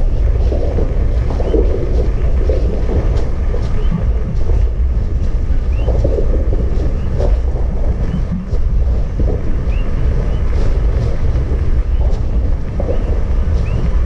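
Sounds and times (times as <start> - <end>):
lava rumbling roar: 0.0 - 14.0
wind buffeting microphone: 0.0 - 14.0.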